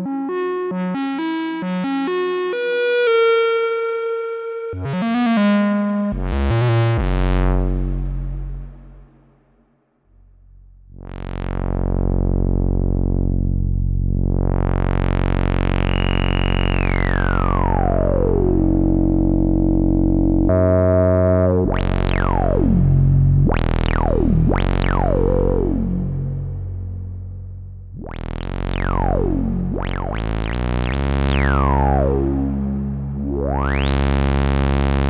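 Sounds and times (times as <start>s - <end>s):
synthesizer buzzy note filter sweeps: 0.0s - 9.5s, 10.3s - 35.0s.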